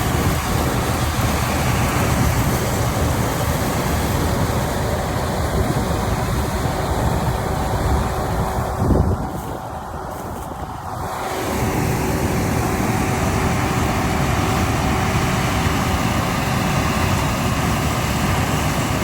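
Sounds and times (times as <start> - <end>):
harvester engine running: 0.0 - 19.0.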